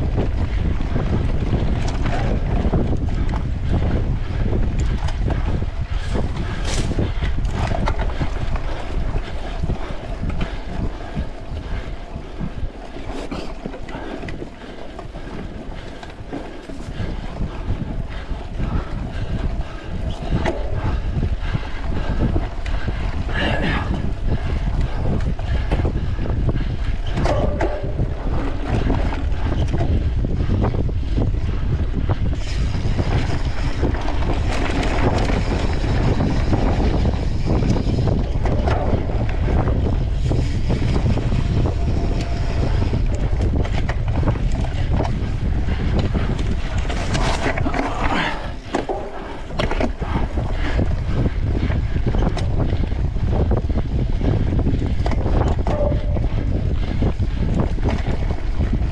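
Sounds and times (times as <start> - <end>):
bike rattles and knocks: 0.0 - 58.9
wind rushing over microphone: 0.0 - 58.9.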